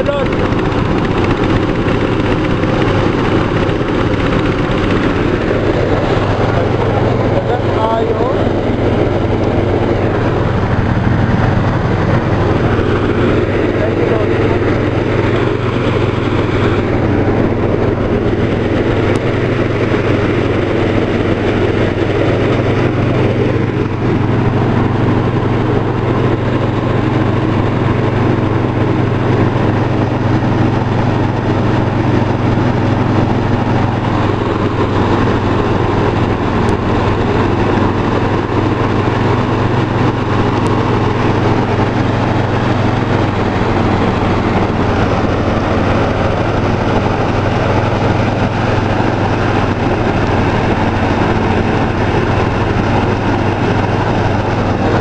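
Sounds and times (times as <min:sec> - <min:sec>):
rice thresher engine humming: 0:00.0 - 0:55.0
straw and grain rushing through: 0:00.0 - 0:55.0.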